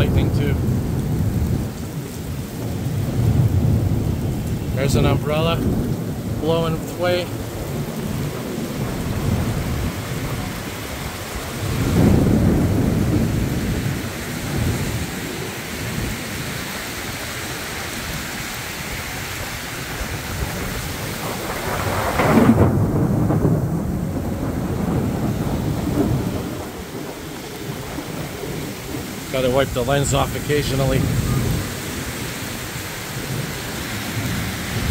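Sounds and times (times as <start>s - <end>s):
heavy rain pouring: 0.0s - 34.9s
thunder rumbling: 0.0s - 34.9s.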